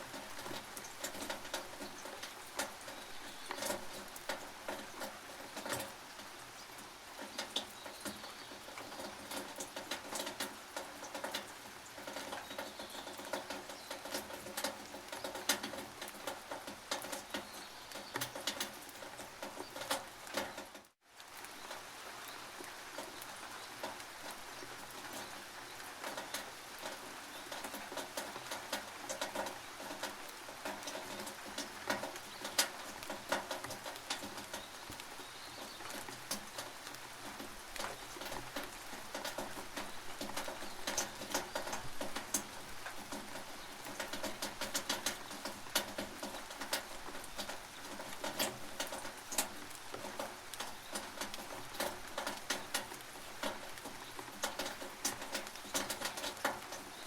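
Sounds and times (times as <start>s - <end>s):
drips tapping on metal roof: 0.0s - 20.9s, 23.0s - 57.0s
rain hissing: 0.0s - 57.0s.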